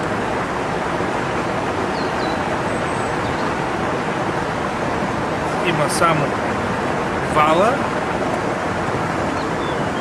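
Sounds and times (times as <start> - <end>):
water rushing in a channel: 0.0 - 10.0.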